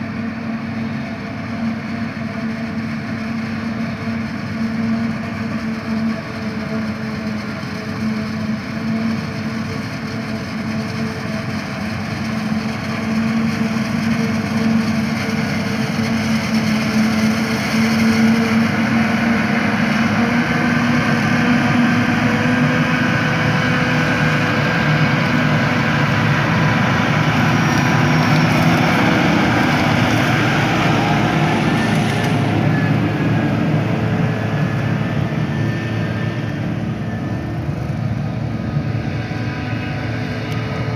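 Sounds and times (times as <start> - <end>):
forage harvester engine and chopper drone: 0.0 - 40.9
tractor running: 0.0 - 40.9.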